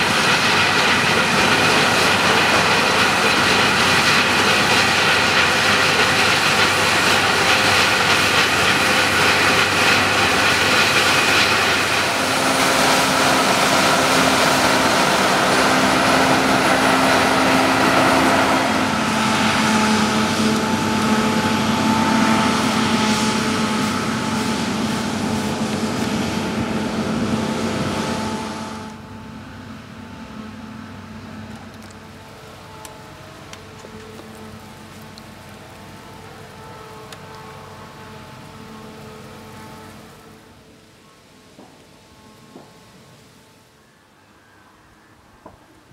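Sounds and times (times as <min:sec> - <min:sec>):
combine harvester hums and whines: 0:00.0 - 0:45.9.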